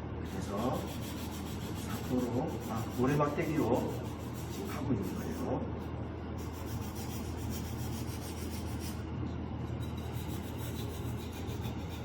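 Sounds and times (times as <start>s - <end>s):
sanding stick scratching wood: 0.3s - 5.6s, 6.4s - 9.0s, 9.7s - 12.0s.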